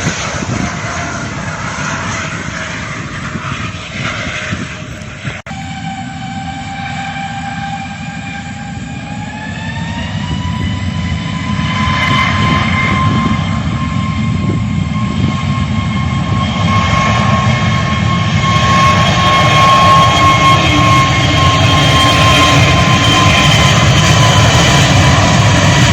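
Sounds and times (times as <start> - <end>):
jet engines whining and rumbling: 0.0 - 25.9.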